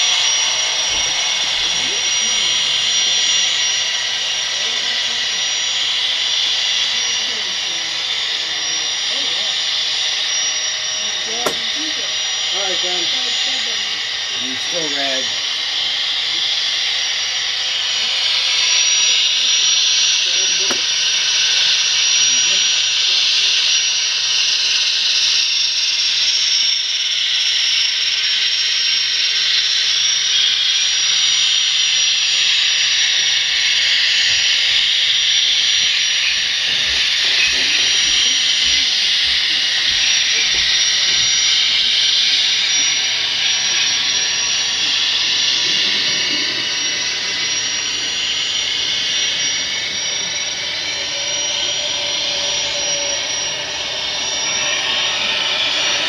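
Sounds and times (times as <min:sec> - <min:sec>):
model locomotive turbine hiss: 0:00.0 - 0:56.0
thin high whistle: 0:00.0 - 0:56.0.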